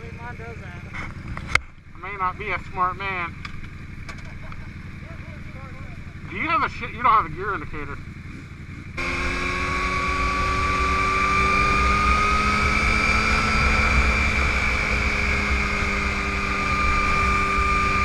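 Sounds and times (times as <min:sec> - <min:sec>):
low wind rumble: 0:00.0 - 0:18.0
motorcycle engine whine: 0:00.0 - 0:18.0.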